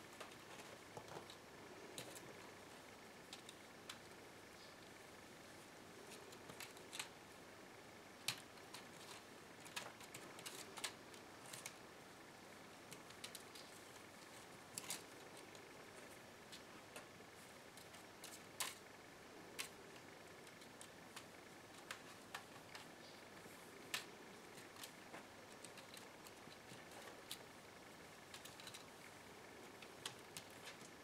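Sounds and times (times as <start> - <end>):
kittens' claws scuffing wicker and wood: 0.0 - 4.2, 5.6 - 7.3, 8.2 - 11.8, 12.8 - 31.0.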